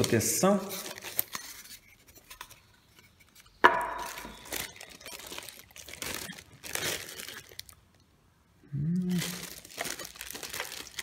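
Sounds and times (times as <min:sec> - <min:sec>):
plastic wrapping crinkling: 0:00.0 - 0:08.0, 0:09.1 - 0:11.0.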